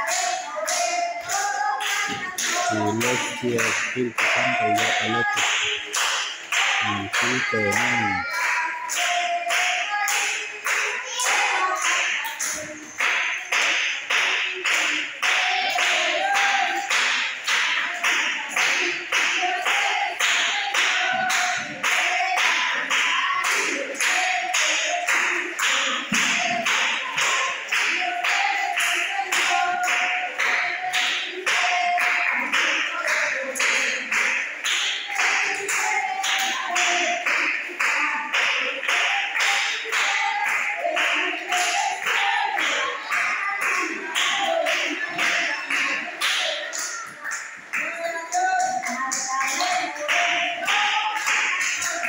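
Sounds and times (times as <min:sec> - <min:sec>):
congregation clapping in rhythm: 0:00.0 - 0:52.0
voices singing praise chorus: 0:00.0 - 0:52.0.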